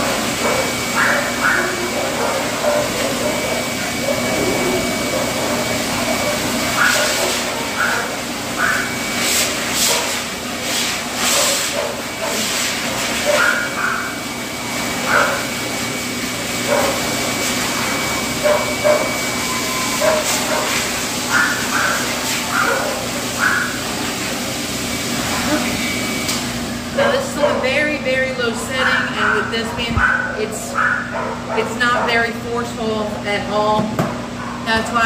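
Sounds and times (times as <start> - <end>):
grooming dryer motor hum: 0.0 - 35.0.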